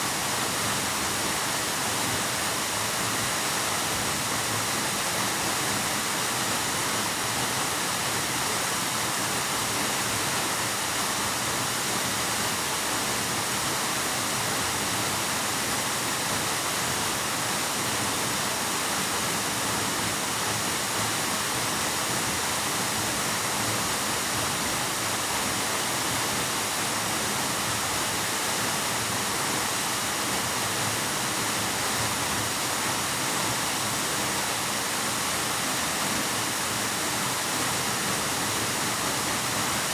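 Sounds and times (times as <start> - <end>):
waterfall echoing in a cave: 0.0 - 39.9.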